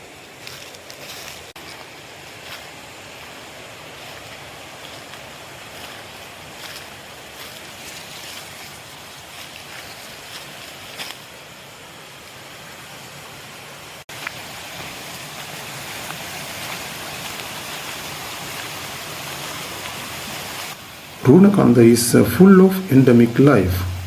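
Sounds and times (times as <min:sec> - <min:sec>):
rainforest rushing hiss: 0:00.0 - 0:24.0.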